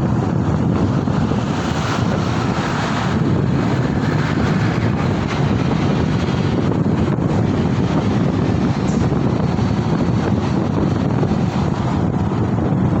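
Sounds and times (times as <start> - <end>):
road traffic noise: 0.0 - 13.0
wind rumbling on microphone: 0.0 - 13.0.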